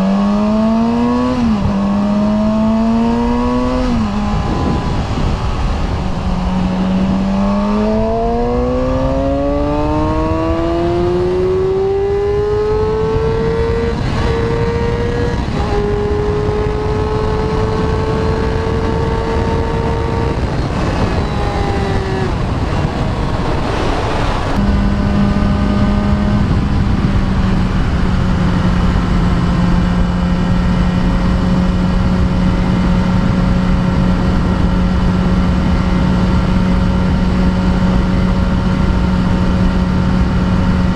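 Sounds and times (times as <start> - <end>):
motorcycle engine: 0.0 - 40.9
wind on microphone: 0.0 - 40.9.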